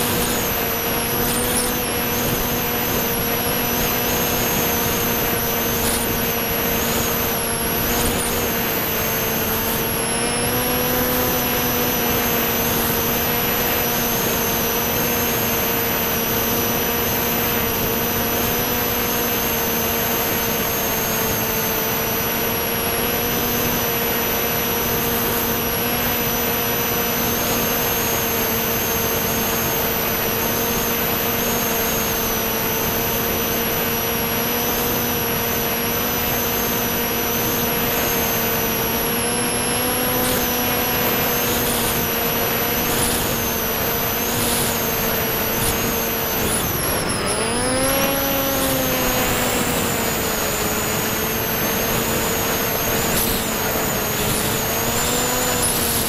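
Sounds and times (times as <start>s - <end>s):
electric motor and propeller droning: 0.0s - 56.0s
high whine: 0.0s - 56.0s.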